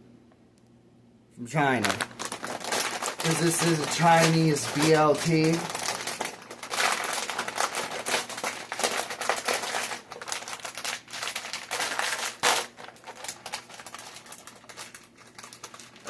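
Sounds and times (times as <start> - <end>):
chip bag crinkling: 1.6 - 16.0.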